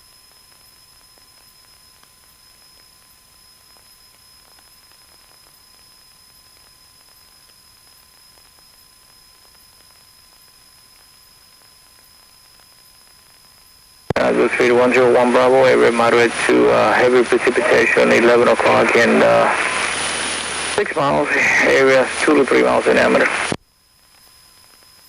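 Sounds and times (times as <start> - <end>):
radio channel hiss: 3.7 - 25.0.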